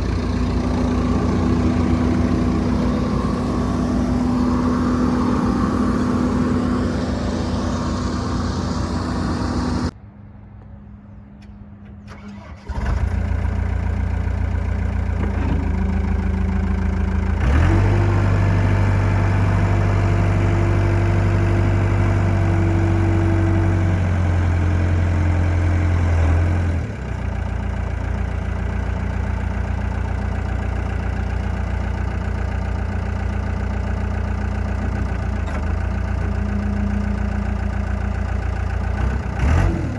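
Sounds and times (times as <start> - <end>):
skid steer engine running: 0.0 - 10.0, 12.1 - 39.9.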